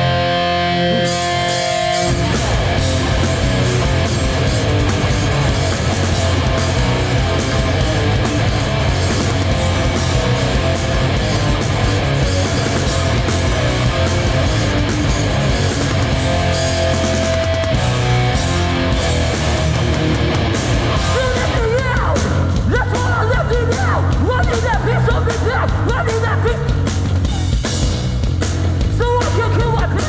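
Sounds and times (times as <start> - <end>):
punk band playing: 0.0 - 30.0.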